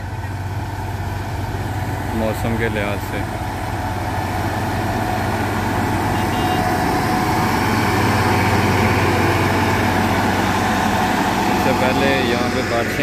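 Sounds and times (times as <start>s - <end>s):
diesel engine running under load: 0.0s - 13.0s
grader blade spreading gravel: 0.0s - 13.0s.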